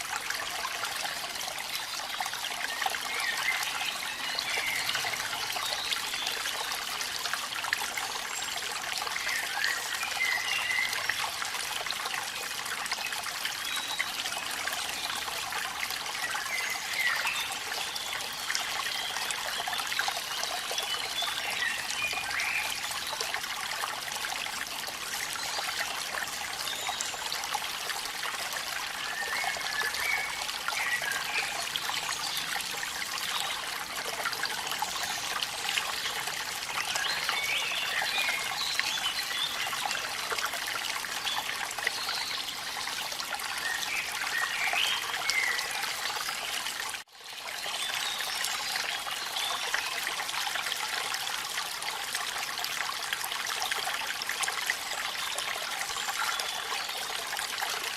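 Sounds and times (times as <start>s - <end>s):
rain and falling water: 0.0s - 57.9s.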